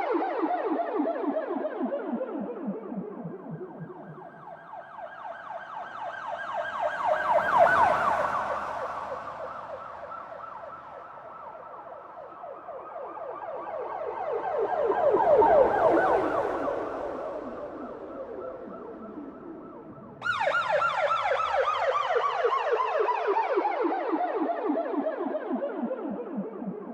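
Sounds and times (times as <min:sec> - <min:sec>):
police siren yelping: 0:00.0 - 0:26.9.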